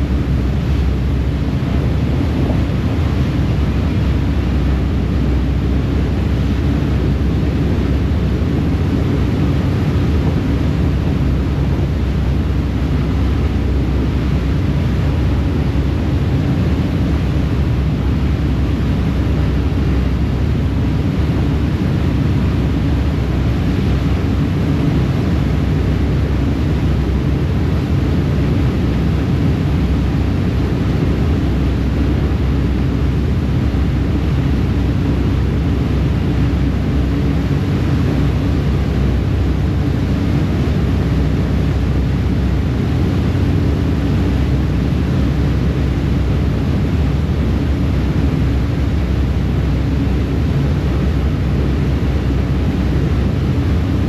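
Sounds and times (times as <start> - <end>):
churning wake: 0.0 - 54.0
ferry engines rumbling: 0.0 - 54.0
wind: 0.0 - 54.0.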